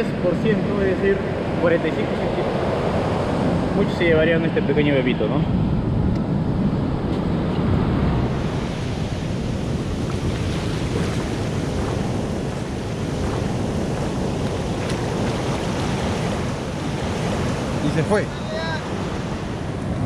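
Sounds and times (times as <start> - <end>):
ocean surf washing onto beach: 0.0 - 20.0
wind on microphone: 0.0 - 20.0.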